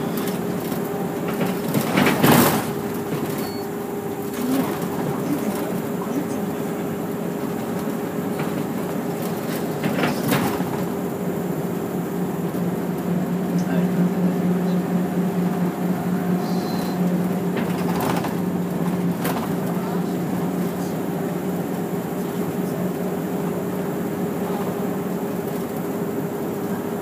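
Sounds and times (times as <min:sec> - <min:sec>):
bus engine droning: 0:00.0 - 0:27.0.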